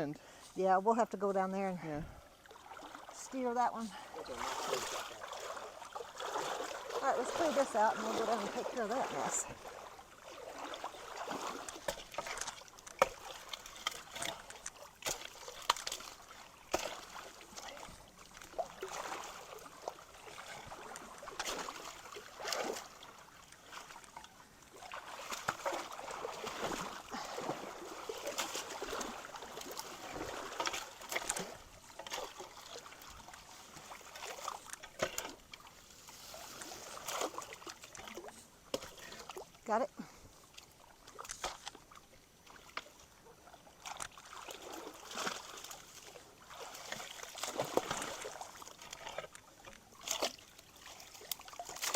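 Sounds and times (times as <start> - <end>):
creek water trickling: 0.0 - 51.9
splashes and knocks of logs: 2.0 - 51.9.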